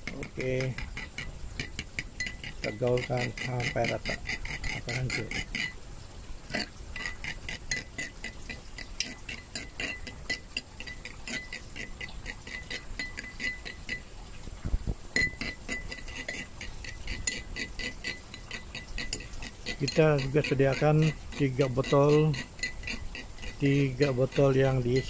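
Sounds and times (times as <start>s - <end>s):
spoon clinking against ceramic bowl: 0.3s - 5.8s, 6.5s - 14.1s, 15.2s - 25.0s.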